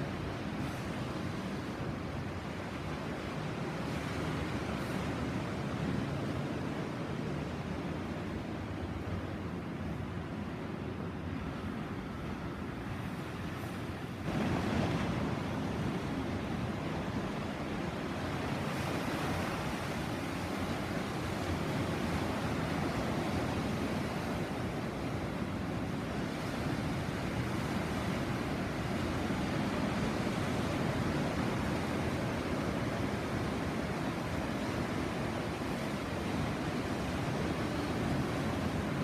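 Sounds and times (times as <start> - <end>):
sea surf washing ashore: 0.0 - 39.0.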